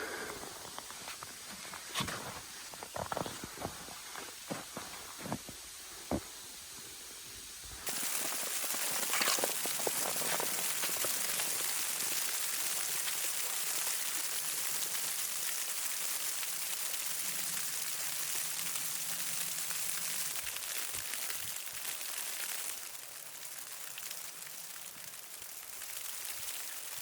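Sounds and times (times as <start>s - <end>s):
snow pattering on surfaces: 0.0s - 27.0s.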